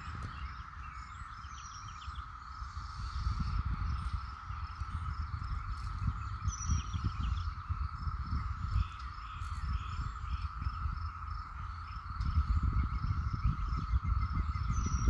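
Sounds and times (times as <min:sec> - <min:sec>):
cicada chorus drone: 0:00.0 - 0:15.0
faint bird calls: 0:00.0 - 0:15.0
wind rumble on microphone: 0:00.0 - 0:15.0.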